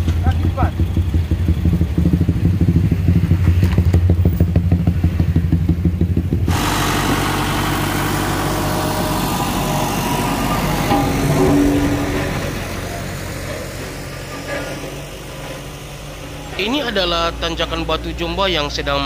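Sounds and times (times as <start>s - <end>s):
engine idling with deep throb: 0.0s - 19.0s
road roller engine running: 0.0s - 19.0s.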